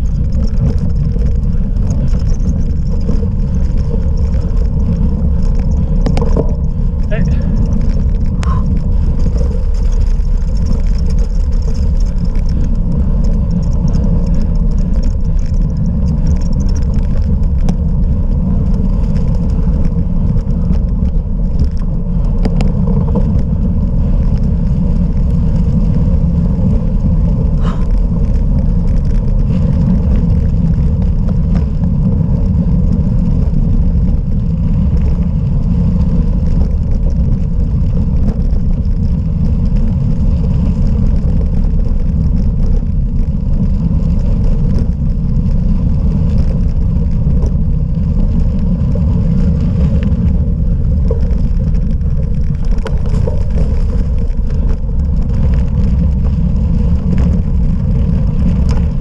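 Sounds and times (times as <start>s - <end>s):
bike clicks and rattles: 0.0s - 59.0s
wind on microphone: 0.0s - 59.0s.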